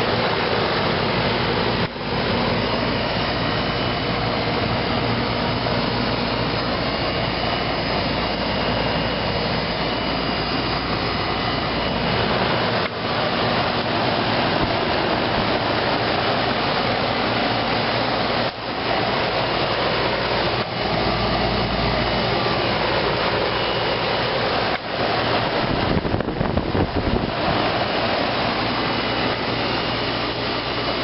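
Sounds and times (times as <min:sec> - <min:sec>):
compressor low hum: 0:00.0 - 0:31.0
condenser fan air rush: 0:00.0 - 0:31.0.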